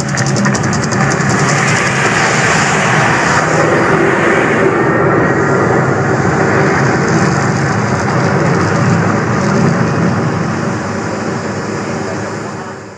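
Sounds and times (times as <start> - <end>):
volcano attraction rumbling roar: 0.0 - 12.9.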